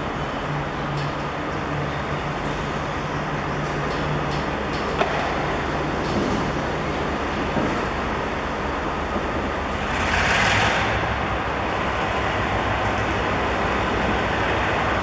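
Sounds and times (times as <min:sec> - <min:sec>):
locomotive engine rumble: 0:00.0 - 0:15.0
road traffic: 0:00.0 - 0:15.0.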